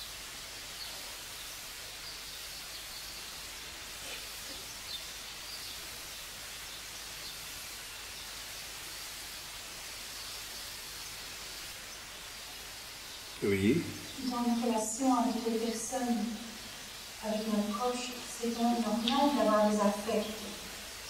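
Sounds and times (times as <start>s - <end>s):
recording hiss: 0.0s - 21.0s.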